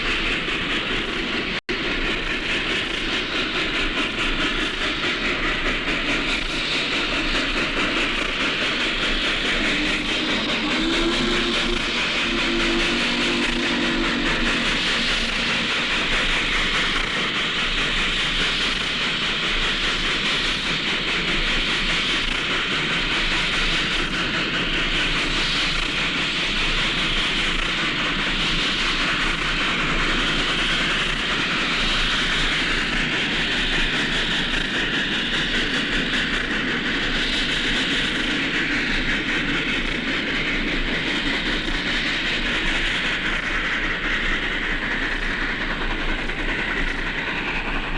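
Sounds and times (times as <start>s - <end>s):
steam train running: 0.0s - 47.9s.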